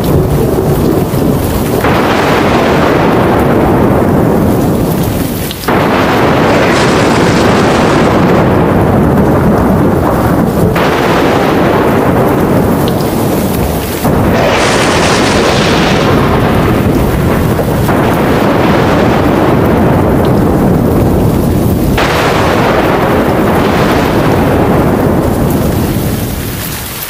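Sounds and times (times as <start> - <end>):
deep thunder rumble: 0.0 - 27.0
heavy rain: 0.0 - 27.0
loud thunderclap: 0.0 - 27.0.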